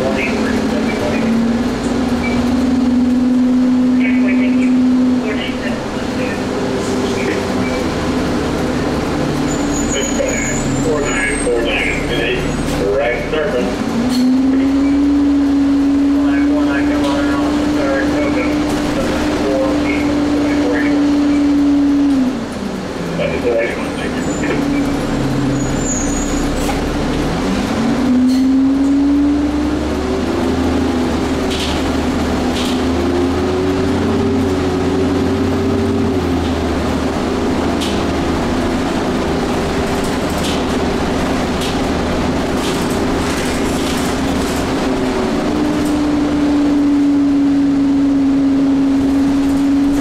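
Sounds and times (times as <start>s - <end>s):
bus drivetrain whine: 0.0s - 50.0s
road noise rumble: 0.0s - 50.0s.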